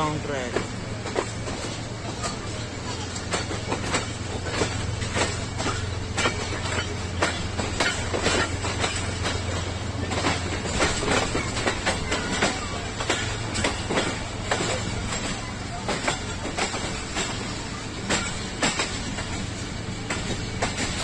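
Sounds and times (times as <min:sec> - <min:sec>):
train wheels clacking over rail joints: 0:00.0 - 0:21.0.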